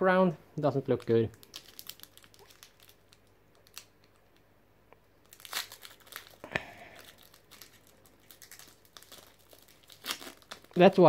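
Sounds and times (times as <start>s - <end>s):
foil wrapper crinkling and tearing: 0.9s - 4.4s, 5.2s - 11.0s.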